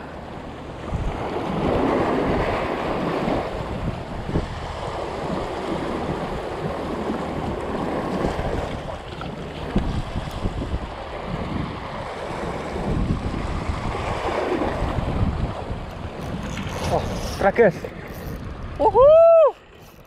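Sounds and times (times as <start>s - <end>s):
wind buffeting microphone: 0.7s - 20.0s
waves breaking over rocks: 0.8s - 20.0s.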